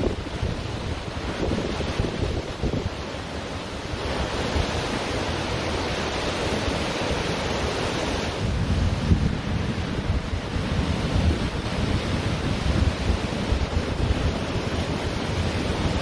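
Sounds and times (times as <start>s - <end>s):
waves breaking on beach: 0.0s - 16.0s
wind on microphone: 0.0s - 16.0s.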